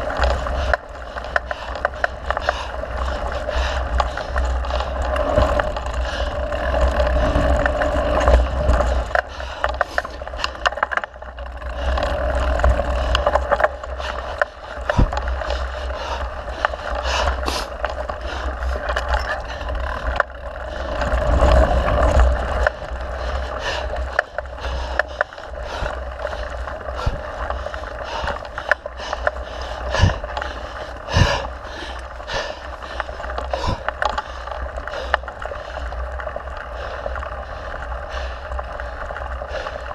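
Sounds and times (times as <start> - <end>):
bike clicks and rattles: 0.0 - 39.9
bike tyres rolling on dirt: 0.0 - 39.9.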